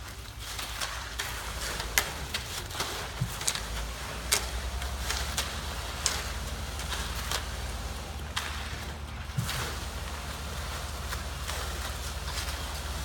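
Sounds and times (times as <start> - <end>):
shovels scraping wet concrete: 0.0 - 13.0
steady low drone: 1.2 - 13.0.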